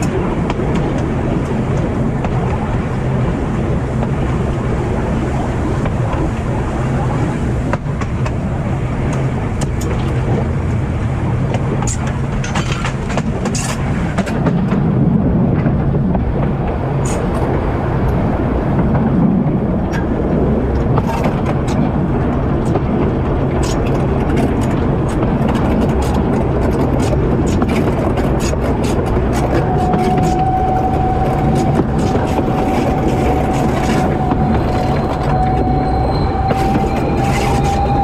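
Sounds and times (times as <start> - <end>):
train droning and rushing: 0.0 - 38.0.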